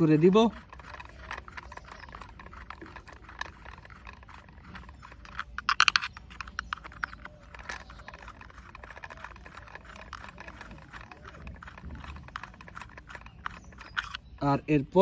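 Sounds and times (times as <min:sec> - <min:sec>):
screwdriver clicking on plastic: 0:00.0 - 0:14.4.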